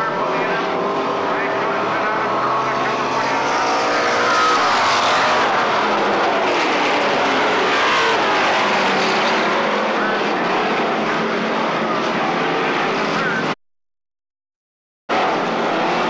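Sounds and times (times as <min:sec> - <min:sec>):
race car engines passing: 0:00.0 - 0:13.6, 0:15.1 - 0:16.0.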